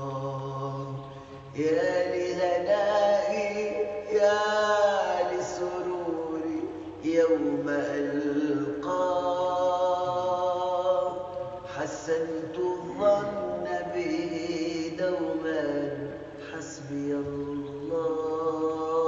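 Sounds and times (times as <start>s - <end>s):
person chanting a cappella: 0.0s - 19.0s.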